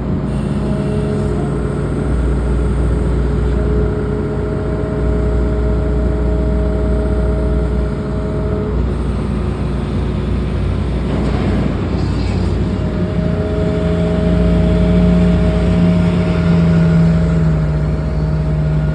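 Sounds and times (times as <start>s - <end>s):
excavator engine drone: 0.0s - 18.9s
hydraulic whine: 0.0s - 18.9s.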